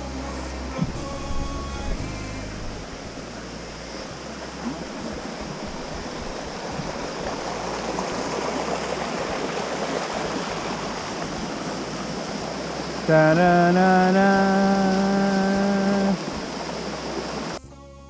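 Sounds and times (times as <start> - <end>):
mountain stream rushing: 0.0 - 17.6.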